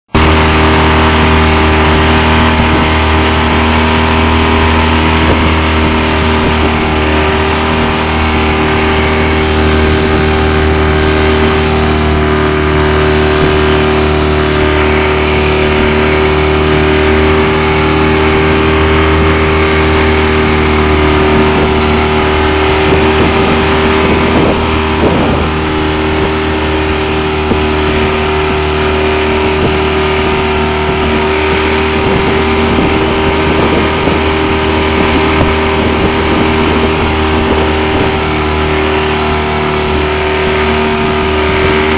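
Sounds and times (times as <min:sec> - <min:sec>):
boat motor running: 0:00.0 - 0:41.9
water rushing along hull: 0:00.1 - 0:41.9.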